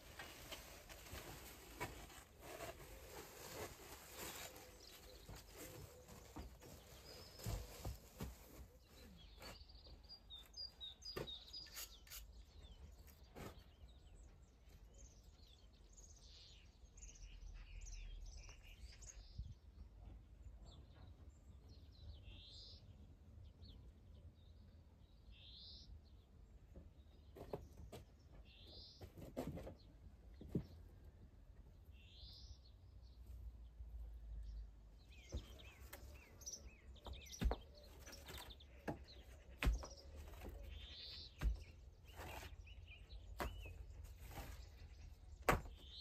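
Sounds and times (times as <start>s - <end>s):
faint birds chirping: 0.0s - 46.0s.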